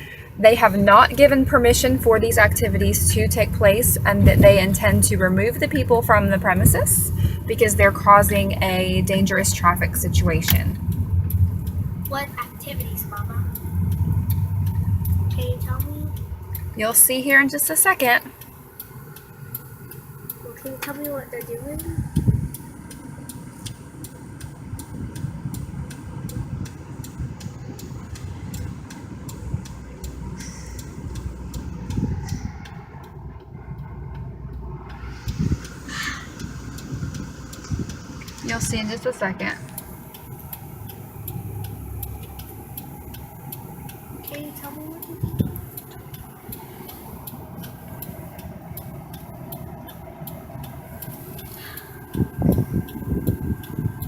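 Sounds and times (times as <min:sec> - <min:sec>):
car turn signal clicking: 0:00.0 - 0:54.0
low rumble of stopped car: 0:00.0 - 0:54.0
traffic: 0:00.0 - 0:54.0.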